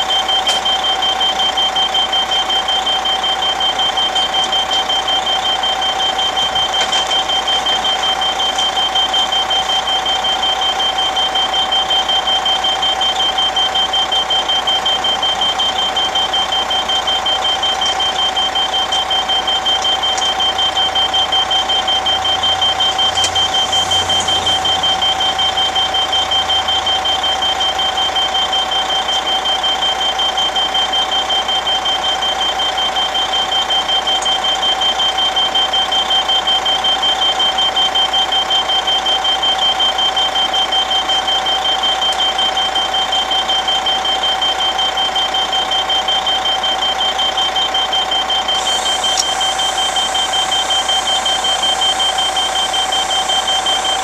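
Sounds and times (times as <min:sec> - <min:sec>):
fast-pulsing electronic beep: 0:00.0 - 0:54.0.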